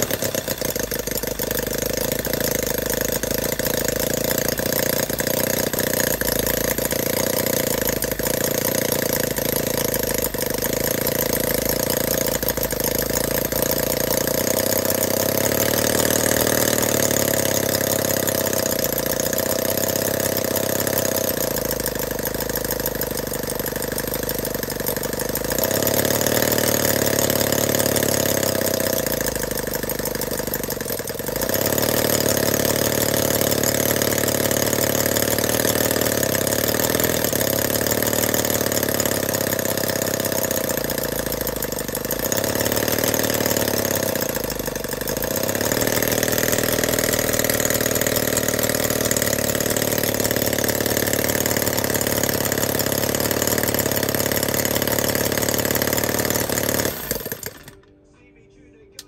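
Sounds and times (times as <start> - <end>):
model engine running: 0.0 - 57.9.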